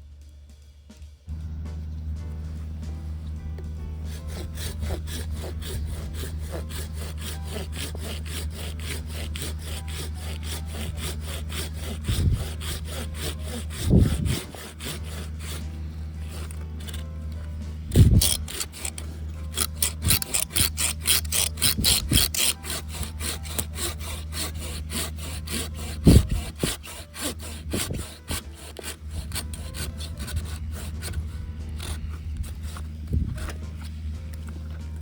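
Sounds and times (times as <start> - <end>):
steady low hum: 0.0 - 35.0
hand saw cutting wood: 2.2 - 35.0.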